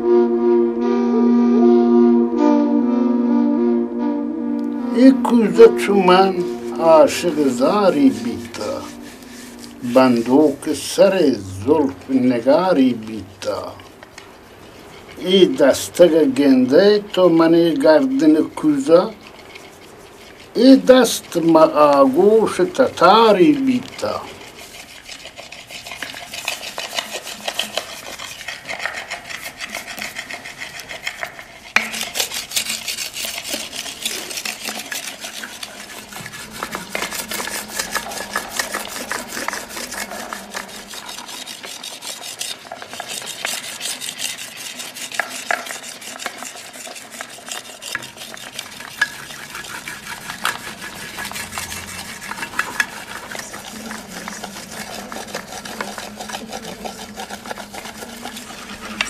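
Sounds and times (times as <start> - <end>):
hands rubbing clay pot: 4.7 - 59.0.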